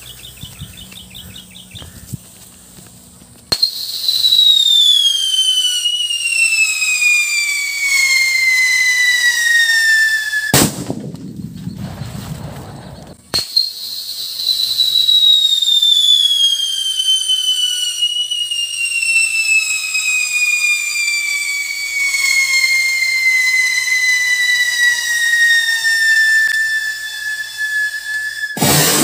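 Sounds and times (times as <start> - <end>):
firework crack: 3.3 - 29.0
firework whistle sliding down: 3.5 - 10.6, 11.2 - 29.0.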